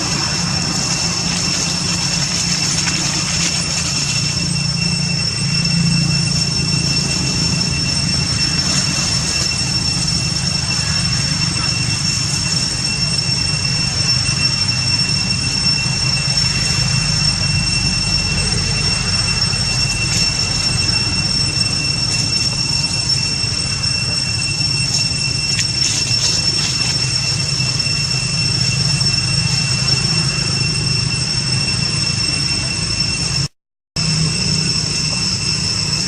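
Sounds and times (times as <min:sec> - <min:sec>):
high-pitched tone drone: 0:00.0 - 0:36.0
low hum: 0:00.0 - 0:36.0.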